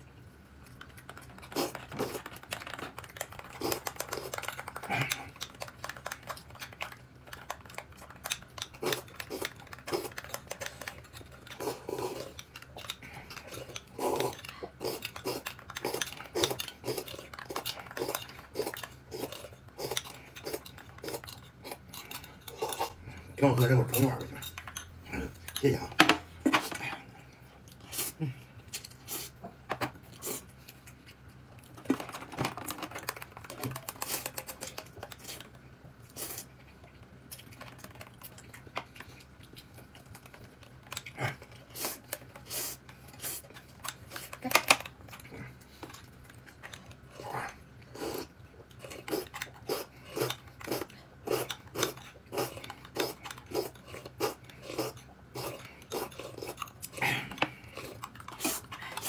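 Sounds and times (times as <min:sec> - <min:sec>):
person chewing: 0:00.0 - 0:59.0.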